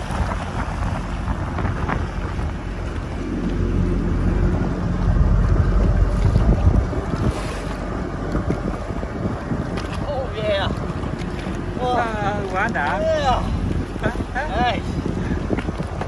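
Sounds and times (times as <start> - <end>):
choppy water slapping: 0.0 - 16.0
jet ski engine running: 0.0 - 16.0
wind buffeting microphone: 0.0 - 16.0.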